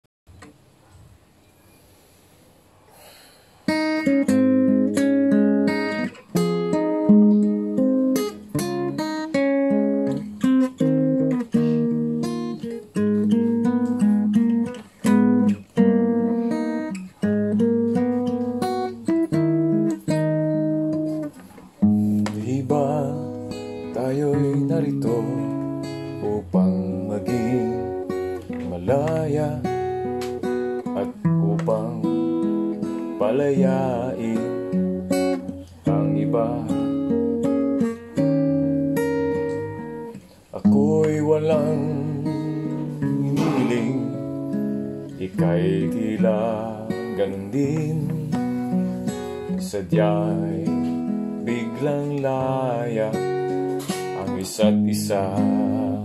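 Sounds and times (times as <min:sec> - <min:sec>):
acoustic guitar playing: 0:01.5 - 0:56.0.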